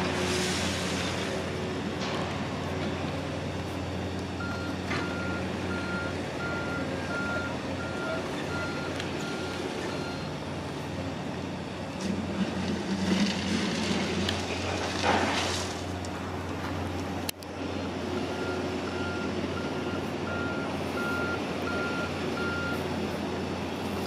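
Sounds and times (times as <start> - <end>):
engine rush with hiss: 0.0 - 24.0.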